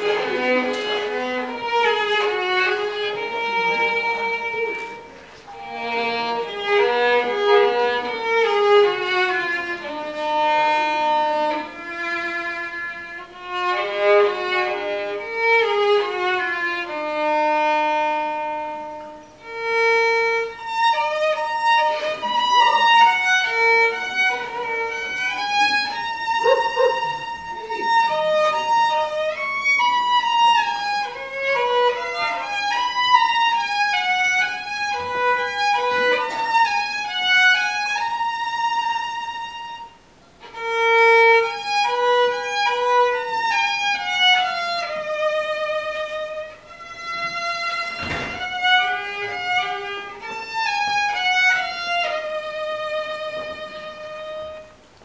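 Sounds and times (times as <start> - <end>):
solo violin melody: 0.0 - 55.0.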